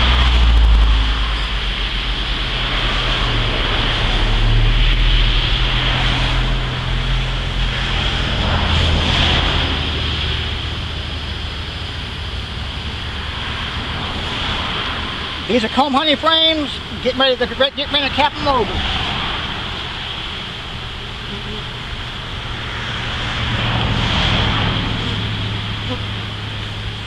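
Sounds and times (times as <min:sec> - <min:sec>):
highway traffic rushing past: 0:00.0 - 0:27.0
wind buffeting microphone: 0:00.0 - 0:27.0.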